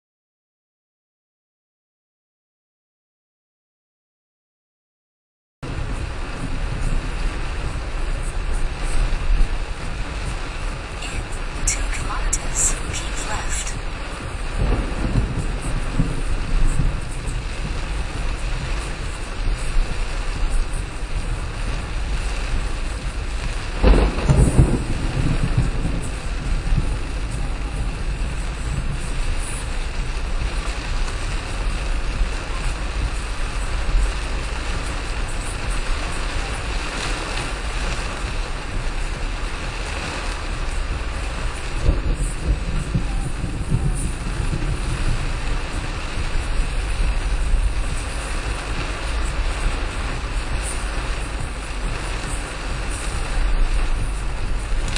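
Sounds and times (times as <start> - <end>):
heavy rain on a car: 5.6 - 54.9
low rumble: 5.6 - 54.9
road and wind noise: 5.6 - 54.9.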